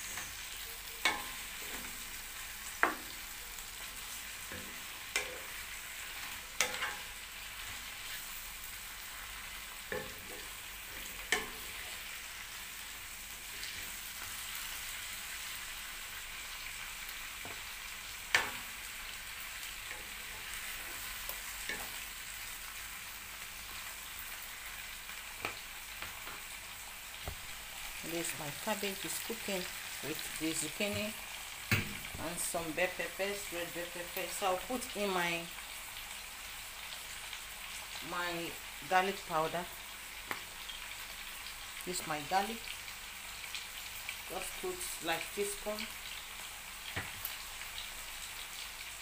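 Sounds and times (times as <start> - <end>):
vegetables sizzling in a pan: 0.0 - 49.0.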